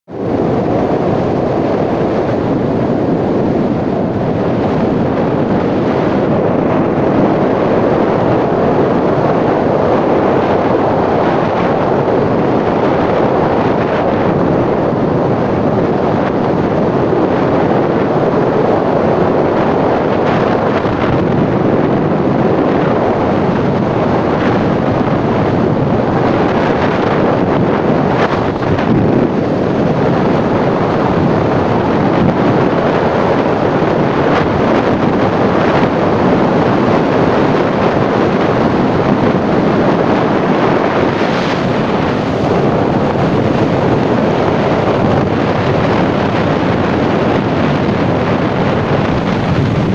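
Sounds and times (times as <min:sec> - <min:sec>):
wind blowing across microphone: 0:00.0 - 0:49.9.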